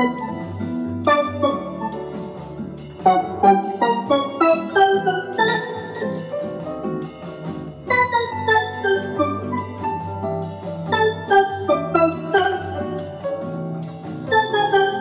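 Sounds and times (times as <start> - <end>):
steel drum-like synth melody: 0.0 - 7.0, 7.8 - 15.0.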